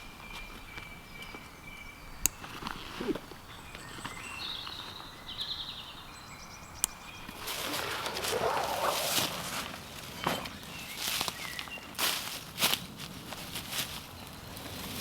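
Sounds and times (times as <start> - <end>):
birds singing: 0.0 - 12.6.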